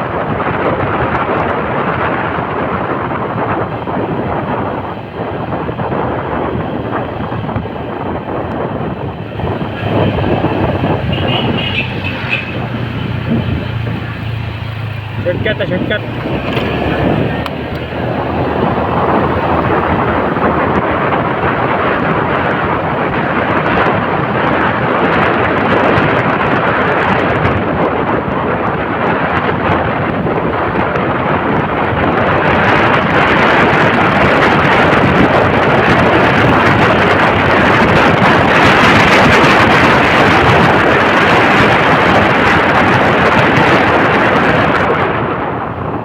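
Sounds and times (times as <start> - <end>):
motorcycle road noise: 0.0 - 46.0
wind rushing over microphone: 0.0 - 46.0.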